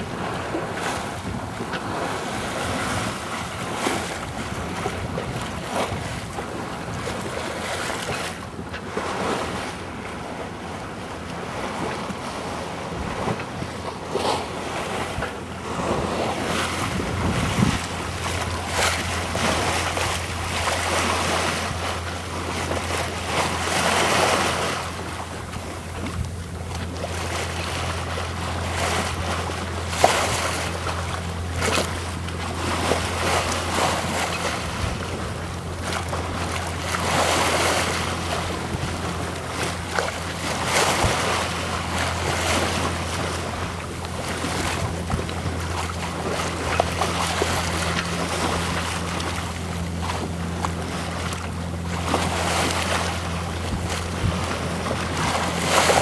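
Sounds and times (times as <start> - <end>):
steady low hum: 0.0 - 56.0
water splashing along a hull: 0.0 - 56.0
wind buffeting the microphone: 0.0 - 56.0.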